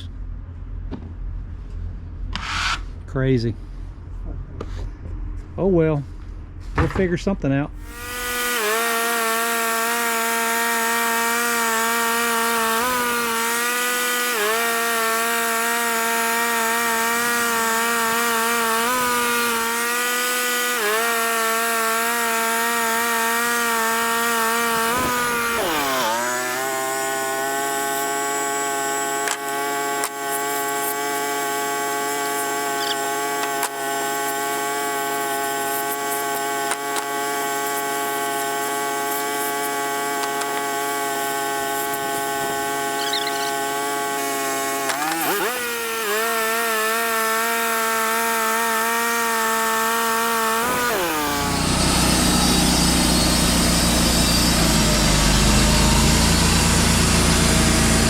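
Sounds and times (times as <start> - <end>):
band saw cutting log: 2.3 - 3.0, 7.8 - 58.0
sawmill engine running: 6.7 - 58.0.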